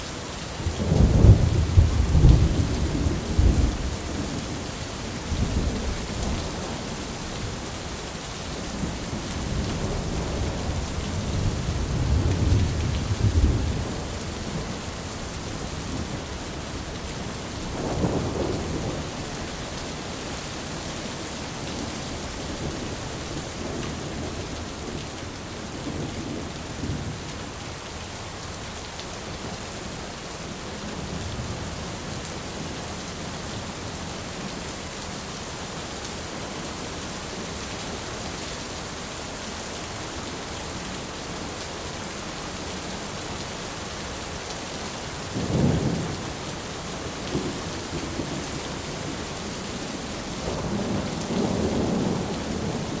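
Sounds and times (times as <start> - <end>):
steady rain hissing: 0.0 - 53.0.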